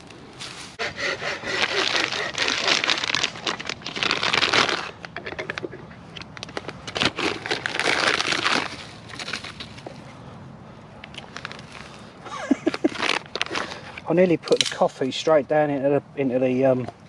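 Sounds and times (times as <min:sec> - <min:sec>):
rustling and crinkling handling noise: 0:00.0 - 0:00.8, 0:01.5 - 0:15.4.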